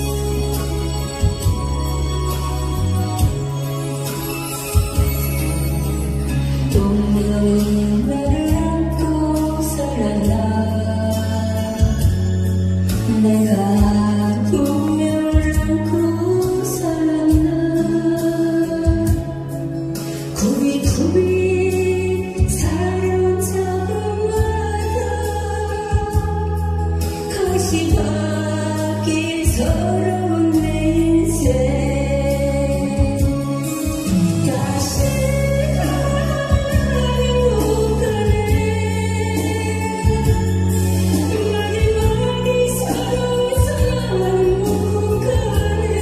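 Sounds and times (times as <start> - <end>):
backing track with beat and bass: 0.0 - 46.0
woman singing into microphone: 0.0 - 46.0.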